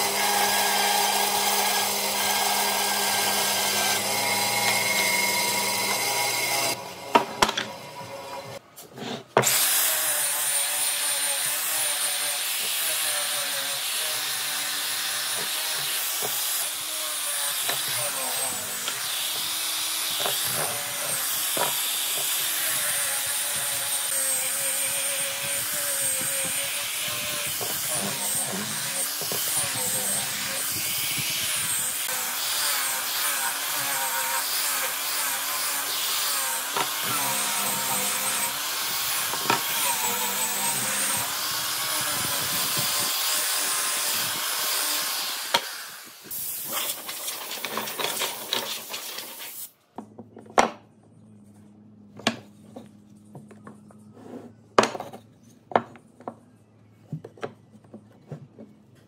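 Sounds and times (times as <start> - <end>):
power tool cutting wood: 0.0 - 8.6, 9.4 - 49.7.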